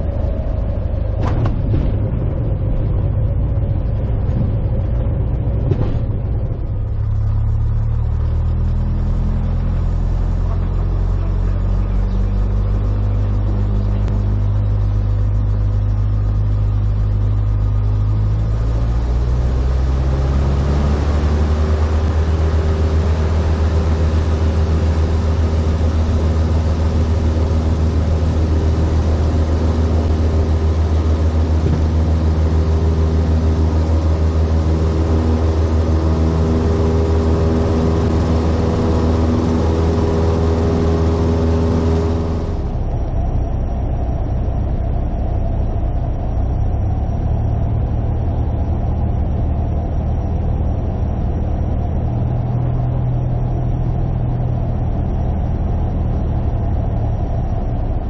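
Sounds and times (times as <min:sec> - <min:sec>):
propeller plane engine: 0:00.0 - 0:58.0.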